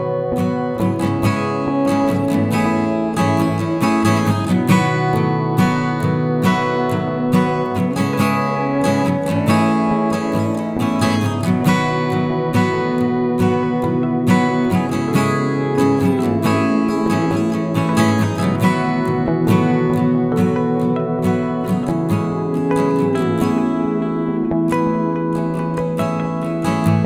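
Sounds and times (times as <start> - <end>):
acoustic guitar strumming and plucking: 0.0 - 27.0.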